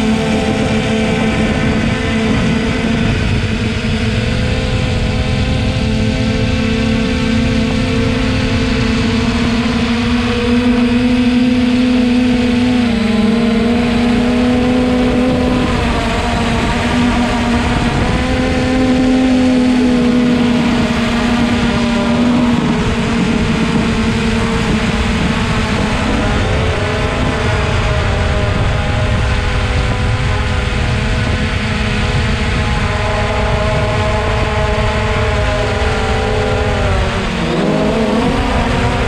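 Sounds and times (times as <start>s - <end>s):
wind rumble: 0.0s - 39.0s.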